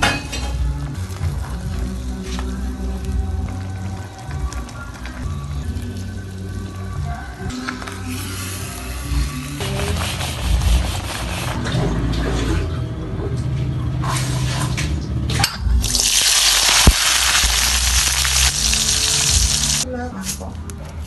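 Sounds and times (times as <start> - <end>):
background music: 0.0 - 13.2, 15.8 - 21.0.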